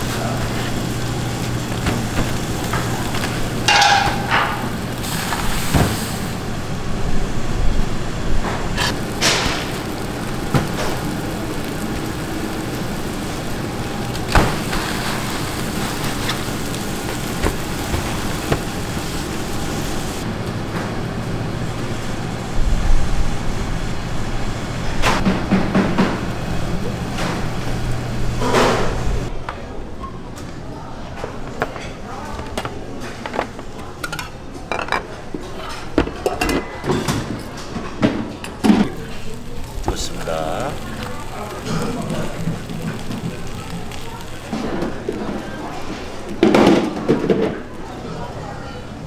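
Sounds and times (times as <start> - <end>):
low machine hum: 0.0 - 31.4, 36.6 - 49.0.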